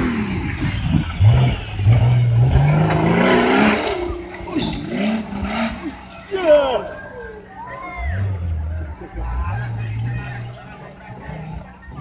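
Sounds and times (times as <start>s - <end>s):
off-road engine revving hard: 0.0s - 6.8s, 7.9s - 12.0s
spectators' voices: 0.0s - 12.0s.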